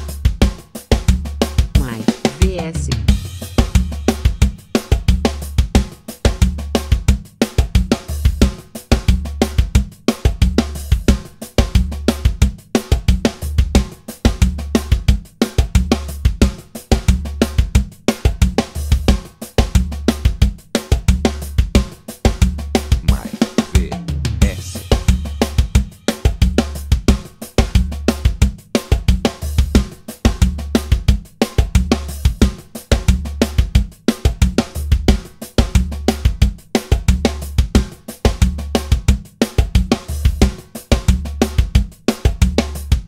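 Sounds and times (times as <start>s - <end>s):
drum kit groove: 0.0s - 43.0s.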